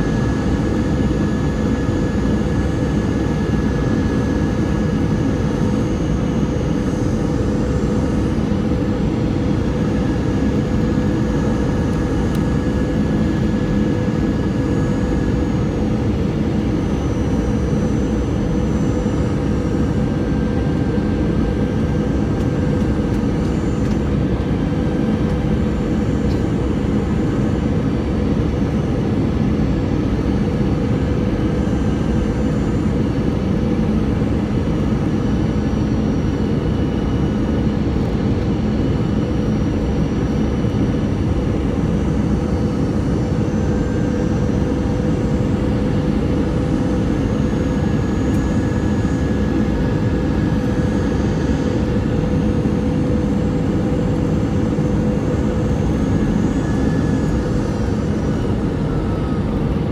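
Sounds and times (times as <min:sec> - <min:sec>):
airplane engines and rushing air: 0:00.0 - 0:59.9
constant low hum: 0:00.0 - 0:59.9.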